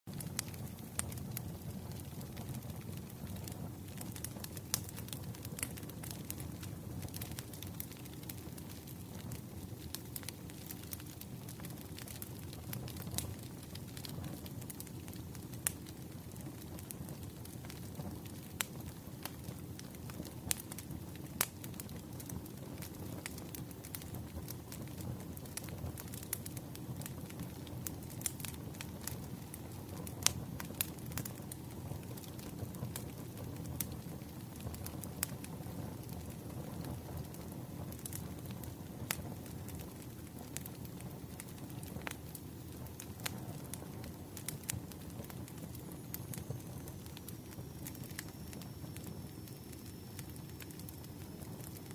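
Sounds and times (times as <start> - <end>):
burning wood crackling and popping: 0.1 - 51.9
campfire burning: 0.1 - 51.9
rumble of flames: 0.1 - 51.9.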